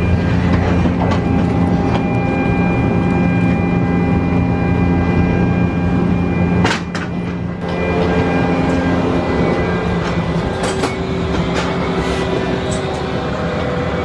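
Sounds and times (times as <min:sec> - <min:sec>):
mechanical hum with high whine: 0:00.0 - 0:14.0.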